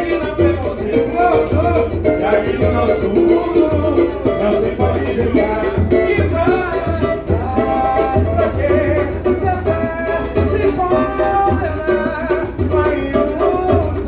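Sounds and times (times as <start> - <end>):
low drum beat: 0.0 - 14.0
samba music with singing: 0.0 - 14.0.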